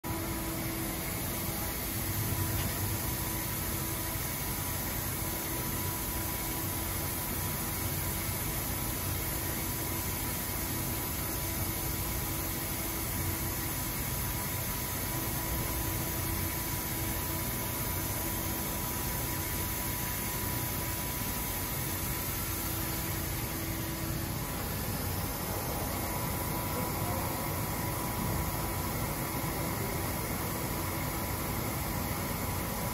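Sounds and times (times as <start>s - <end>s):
machine hum and whir: 0.0s - 32.9s
constant hiss: 0.1s - 32.9s.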